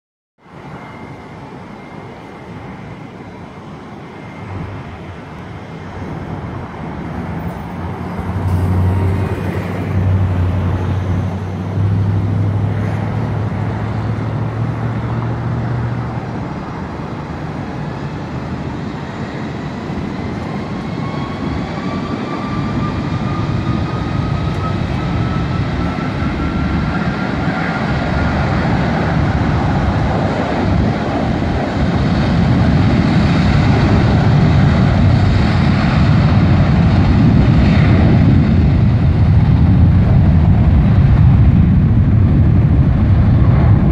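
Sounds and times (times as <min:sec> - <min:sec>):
jet engines rumbling: 0:00.4 - 0:43.9.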